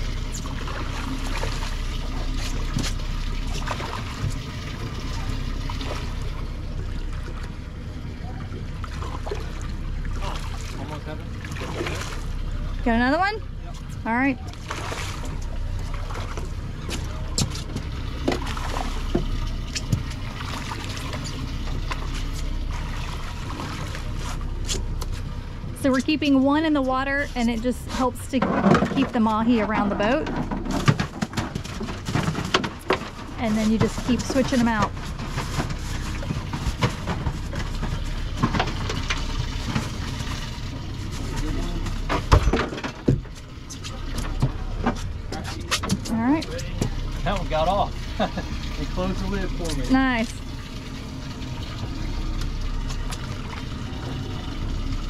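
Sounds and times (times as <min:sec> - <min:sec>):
boat low rumble: 0:00.0 - 0:55.0
water trickling: 0:00.0 - 0:55.0.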